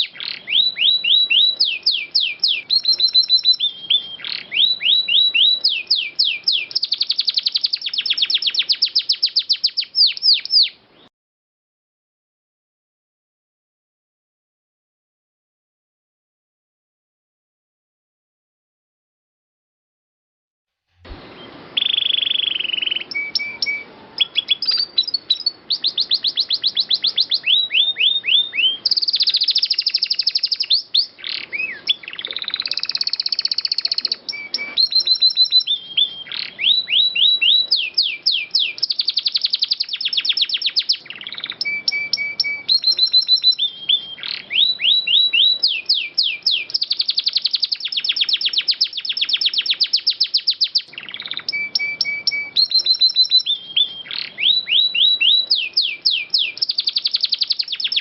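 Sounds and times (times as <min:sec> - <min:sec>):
canary singing trills: 0:00.0 - 0:11.1, 0:21.0 - 0:58.0.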